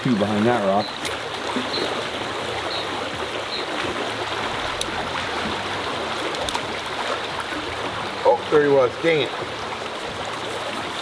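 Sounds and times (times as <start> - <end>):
water rushing over boulders: 0.0 - 11.0.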